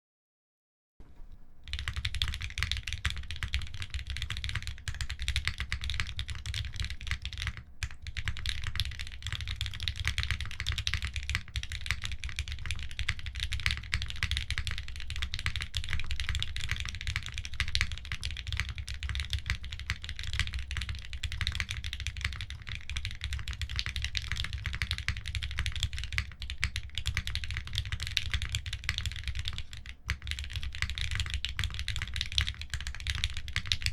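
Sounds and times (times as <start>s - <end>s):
mechanical keyboard typing: 1.2s - 33.9s.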